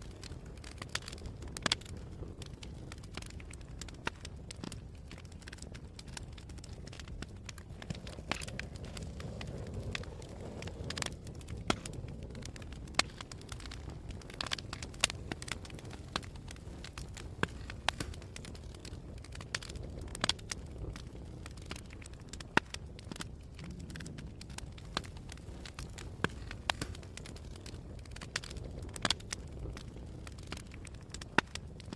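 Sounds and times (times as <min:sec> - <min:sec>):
low steady fire rumble: 0:00.0 - 0:31.9
wood fire crackling and popping: 0:00.0 - 0:31.9.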